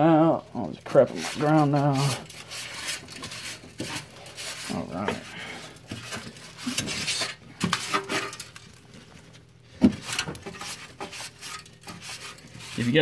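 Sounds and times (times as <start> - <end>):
cloth rubbing and scraping plastic: 0.9 - 13.0.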